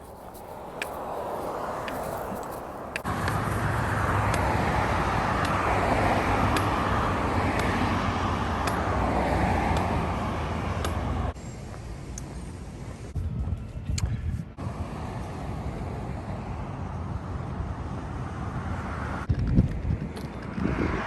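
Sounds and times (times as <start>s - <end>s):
vehicle passing at speed: 0.0s - 11.4s, 14.6s - 21.0s.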